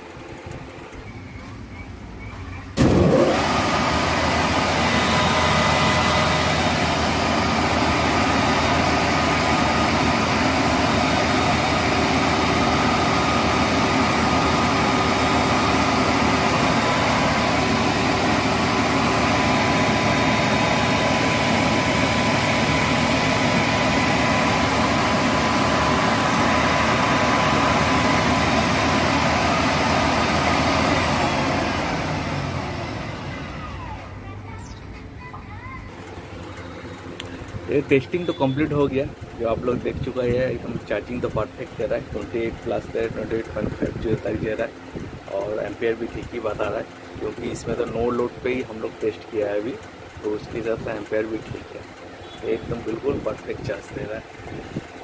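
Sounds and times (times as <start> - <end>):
machine noise: 0.0 - 35.2, 35.8 - 55.0
alternator whine: 0.0 - 55.0.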